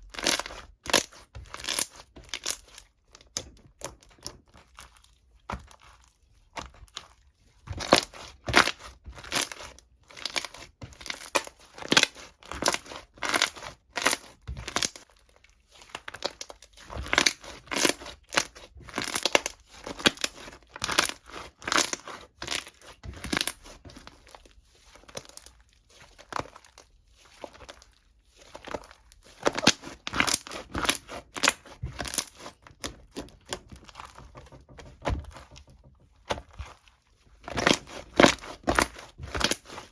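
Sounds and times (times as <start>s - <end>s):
material crinkling: 3.9s - 39.9s.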